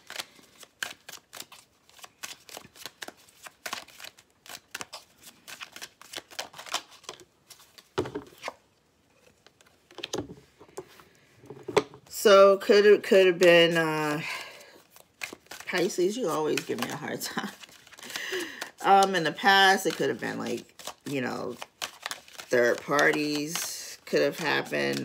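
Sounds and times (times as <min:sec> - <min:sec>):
cards being shuffled: 0:00.0 - 0:11.0, 0:13.2 - 0:25.0.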